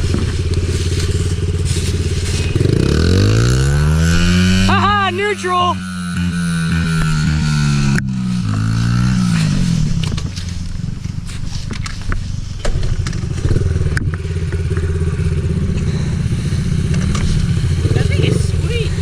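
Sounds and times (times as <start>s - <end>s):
small vehicle engine revving: 0.0s - 19.0s.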